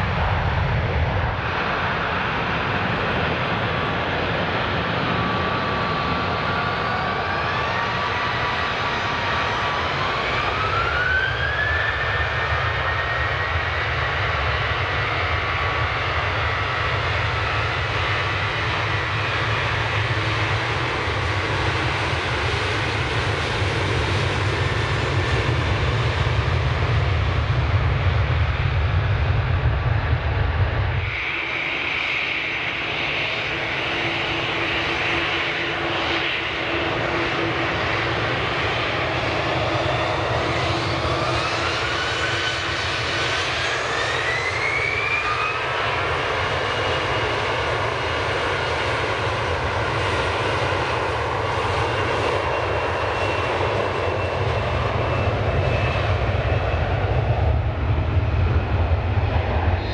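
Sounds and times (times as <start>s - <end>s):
jet engines deep rumble: 0.0s - 59.9s
jet engines high whine: 0.0s - 59.9s.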